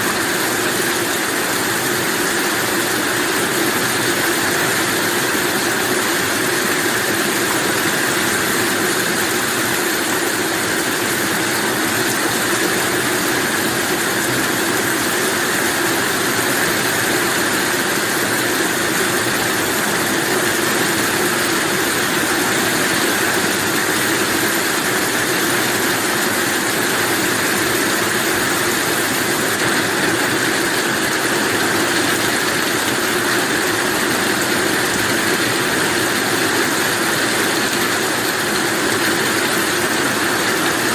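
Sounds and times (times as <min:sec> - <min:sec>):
heavy rain falling: 0:00.1 - 0:40.9.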